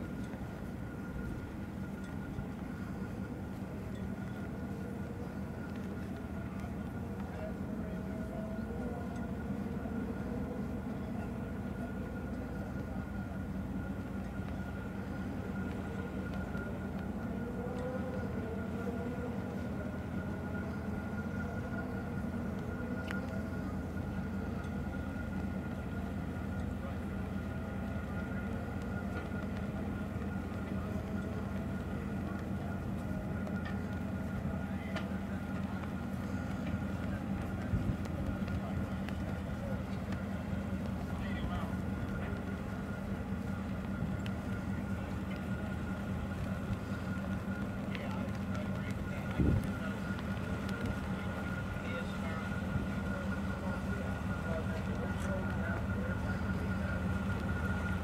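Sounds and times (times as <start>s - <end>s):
boat diesel engines rumbling: 0.0s - 58.0s
faint steady whine: 0.0s - 58.0s.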